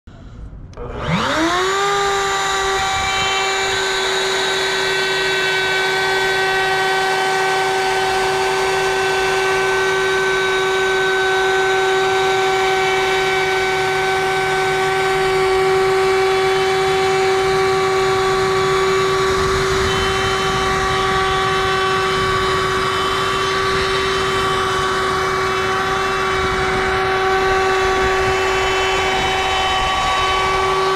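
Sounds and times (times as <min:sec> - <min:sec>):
router cutting wood: 0:00.8 - 0:30.9.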